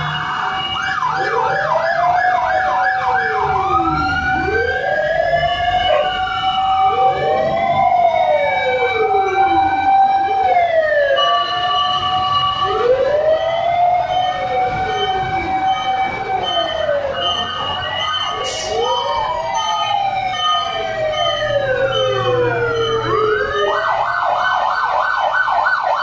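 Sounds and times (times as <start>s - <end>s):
fire truck sirens wailing: 0.0s - 26.0s.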